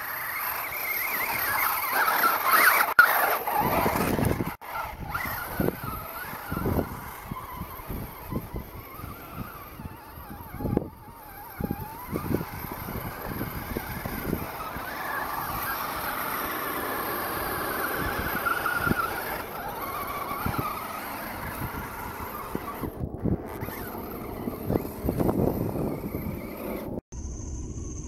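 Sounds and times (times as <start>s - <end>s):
electric motor whining: 0.0s - 27.8s.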